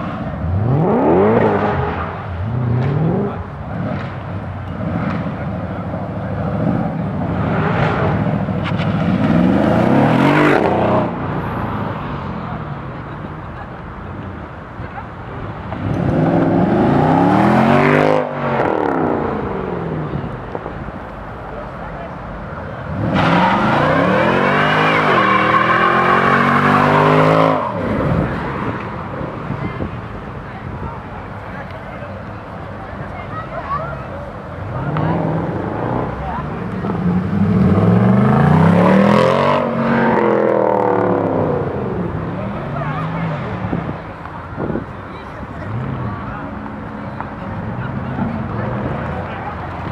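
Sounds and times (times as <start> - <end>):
car engine accelerating: 0.0 - 30.6, 31.4 - 49.9.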